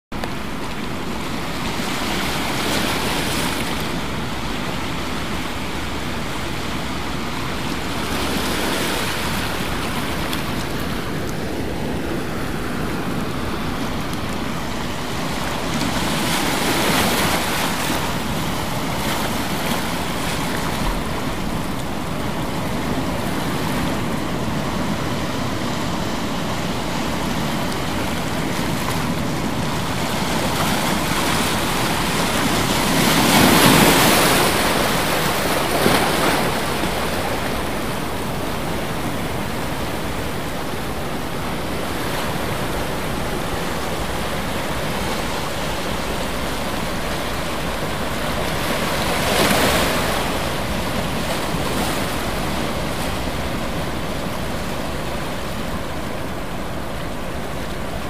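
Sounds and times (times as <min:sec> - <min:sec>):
rushing water: 0:00.1 - 0:58.0.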